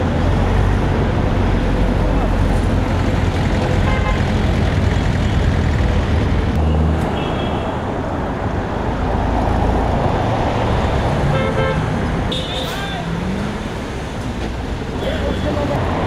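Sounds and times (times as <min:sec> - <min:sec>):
car engines: 0:00.0 - 0:16.0
tyre noise of cars: 0:00.0 - 0:16.0.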